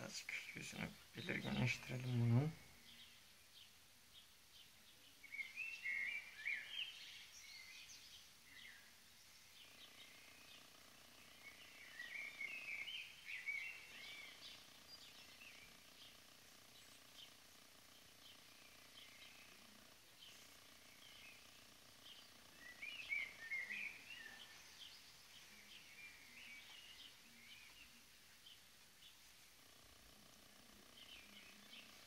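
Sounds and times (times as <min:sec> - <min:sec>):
faint ambient noise: 0:00.0 - 0:32.0
small birds chirping: 0:00.0 - 0:32.0.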